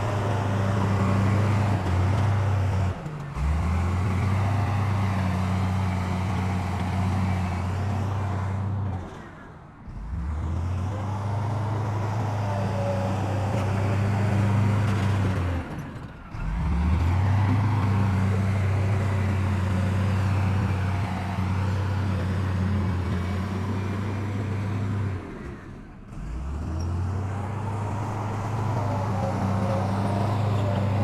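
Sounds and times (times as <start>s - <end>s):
heavy diesel engine running: 0.0s - 8.9s, 9.9s - 31.0s.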